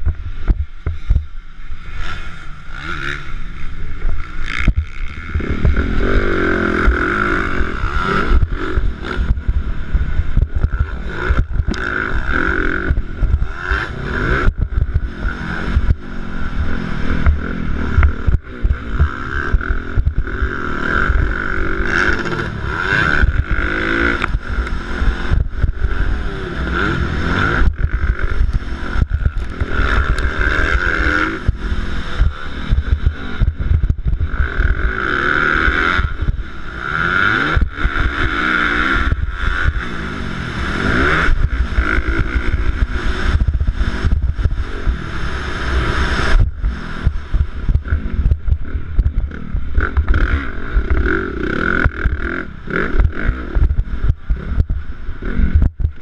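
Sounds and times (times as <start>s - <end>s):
wind buffeting microphone: 0.0s - 1.4s, 3.7s - 38.4s, 39.0s - 56.0s
dirt bike engine revving: 0.0s - 56.0s.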